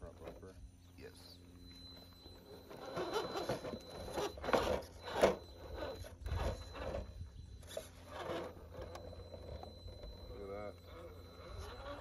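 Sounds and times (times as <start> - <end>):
electric motor whirring: 1.4 - 12.0
tires scraping on rock: 2.3 - 12.0.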